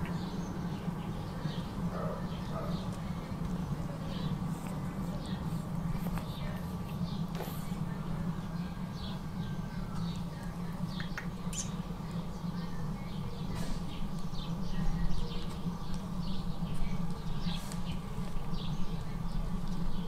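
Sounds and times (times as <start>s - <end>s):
small birds chirping: 0.0s - 20.0s
steady low hum: 0.0s - 20.0s.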